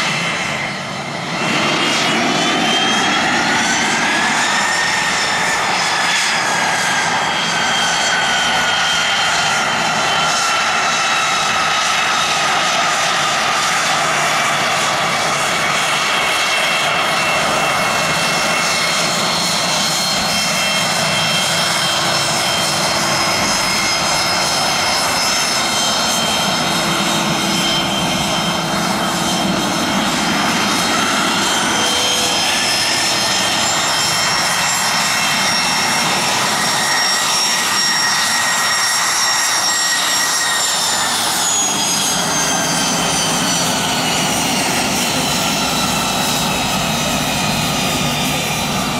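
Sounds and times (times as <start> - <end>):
jet engines rushing with high whine: 0.0 - 48.9.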